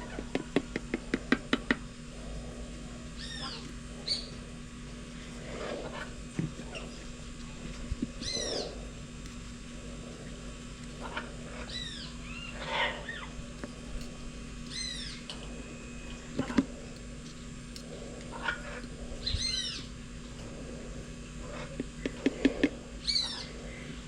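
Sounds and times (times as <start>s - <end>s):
bird calling: 0.0s - 24.0s.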